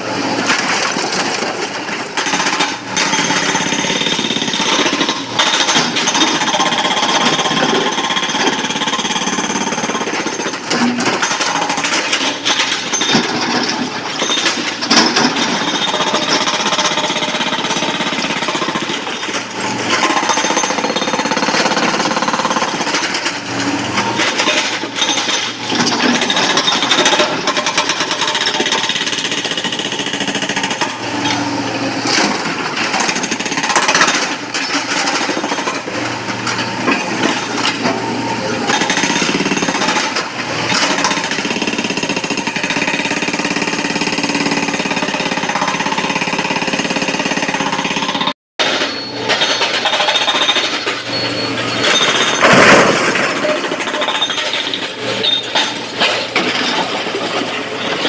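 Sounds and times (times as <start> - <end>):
hydraulic rock breaker hammering stone: 0.0 - 58.0.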